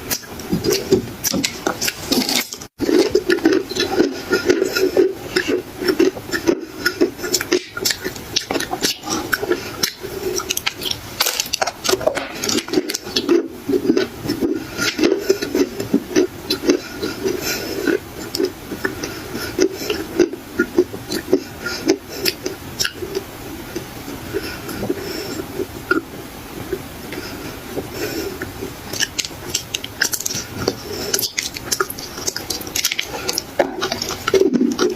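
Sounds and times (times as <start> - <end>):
clay being chewed with crunches: 0.1 - 26.0, 26.7 - 34.9.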